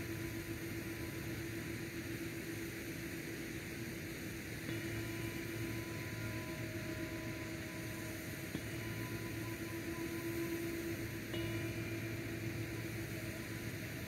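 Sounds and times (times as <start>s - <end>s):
faint steady tones: 0.0s - 14.0s
low even hum: 0.0s - 14.0s
steady hiss: 0.0s - 14.0s.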